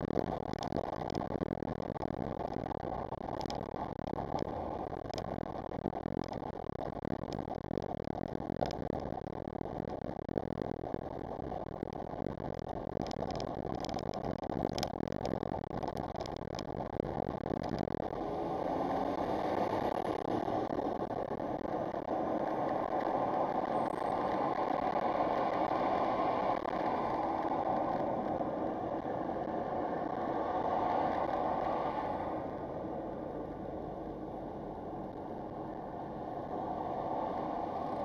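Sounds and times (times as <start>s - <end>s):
car engine and tyre noise: 0.0s - 38.0s.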